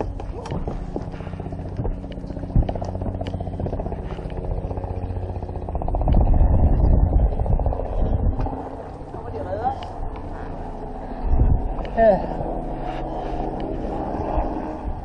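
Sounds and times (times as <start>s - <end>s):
loud low rumble: 0.0s - 15.0s
motor running with fast pulse: 0.0s - 15.0s.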